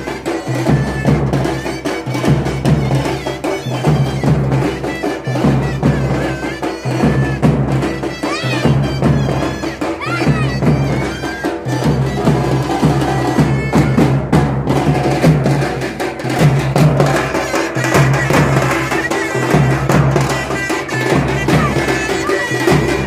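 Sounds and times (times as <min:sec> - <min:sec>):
reedy woodwind melody: 0:00.0 - 0:15.2, 0:17.0 - 0:23.0
drums beaten with sticks: 0:00.0 - 0:23.0.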